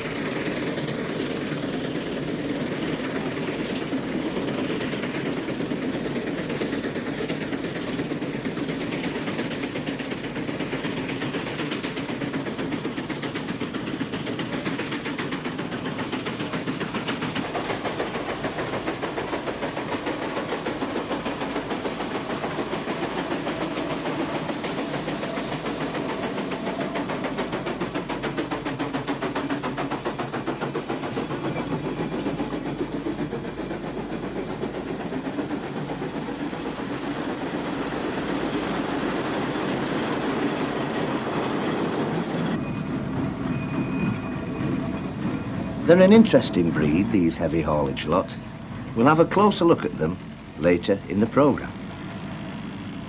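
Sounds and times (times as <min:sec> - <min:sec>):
steam engine exhaust beats: 0:00.0 - 0:53.0
steam hissing: 0:00.0 - 0:53.0.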